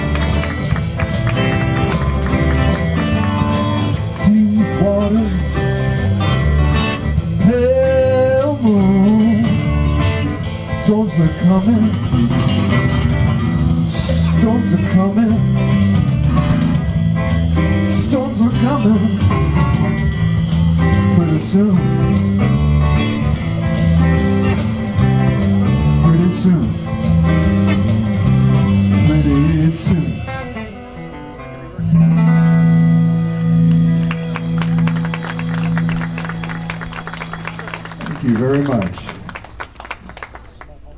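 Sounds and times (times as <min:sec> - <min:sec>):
sliding lead melody: 0:00.0 - 0:38.8
live band playing: 0:00.0 - 0:40.3.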